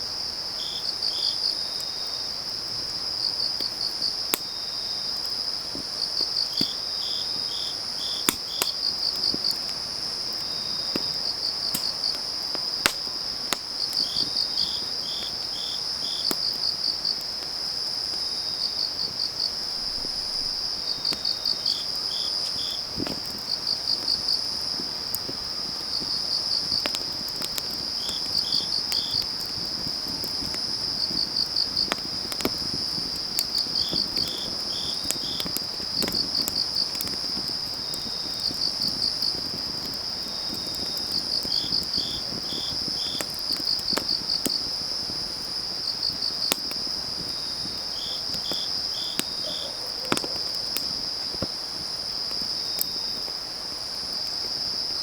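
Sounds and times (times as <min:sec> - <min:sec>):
crickets trilling: 0:00.0 - 0:55.0
wood fire crackling and popping: 0:00.1 - 0:55.0.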